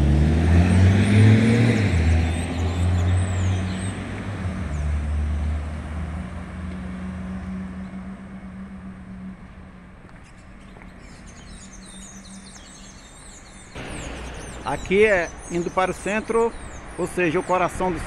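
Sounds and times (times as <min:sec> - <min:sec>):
vehicle engine accelerating: 0:00.0 - 0:12.7, 0:13.8 - 0:16.9.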